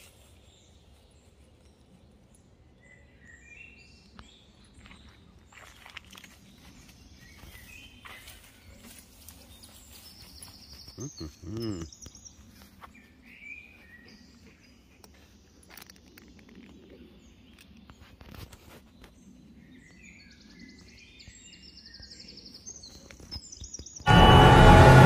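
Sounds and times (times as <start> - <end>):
small birds chirping and trilling: 0.0 - 24.0.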